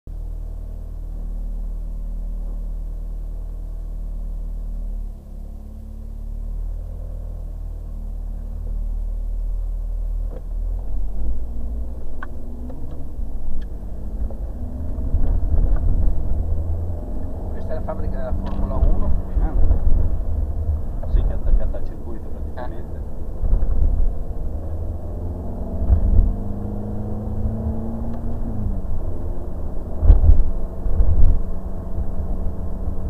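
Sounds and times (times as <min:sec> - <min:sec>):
car engine rumbling: 0:00.1 - 0:33.0.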